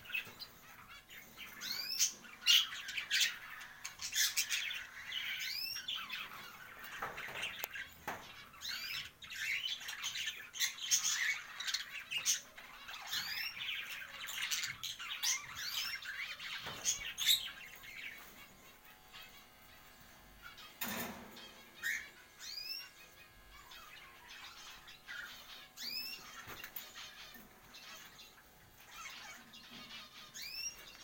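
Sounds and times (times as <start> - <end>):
pet birds chirping and squawking: 0.0 - 31.0.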